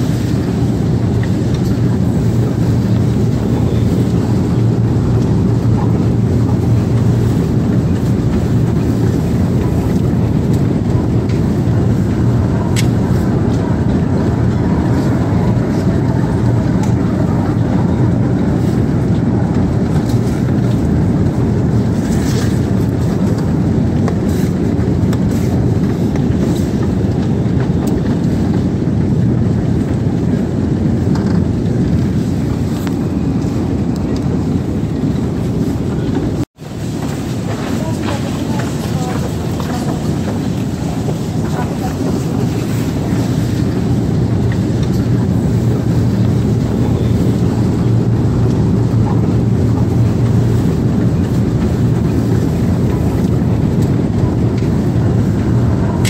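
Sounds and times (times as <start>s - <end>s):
escalator hum and rumble: 0.0s - 56.0s.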